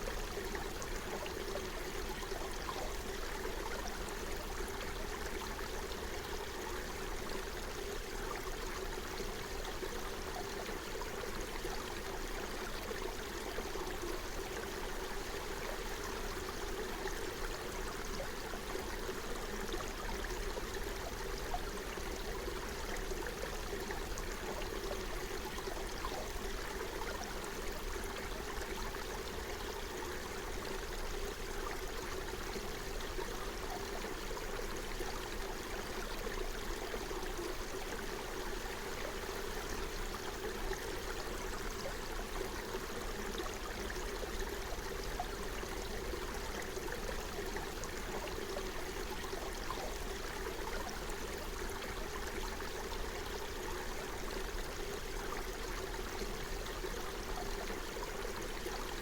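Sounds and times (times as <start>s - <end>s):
stream burbling over stones: 0.0s - 59.0s.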